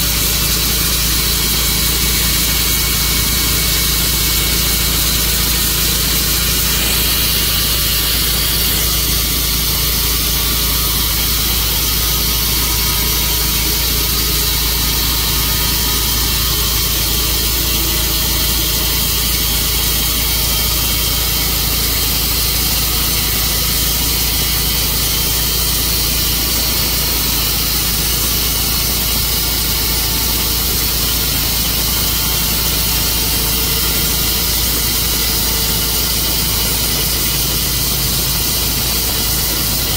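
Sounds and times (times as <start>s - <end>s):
bandsaw sawmill engine drone: 0.0s - 39.9s
high saw hiss: 0.0s - 39.9s.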